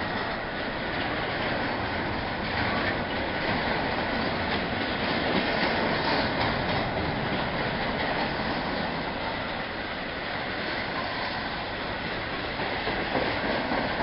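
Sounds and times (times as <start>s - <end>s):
train wheels on rails: 0.0s - 14.0s
wheels clicking over rail joints: 0.0s - 14.0s.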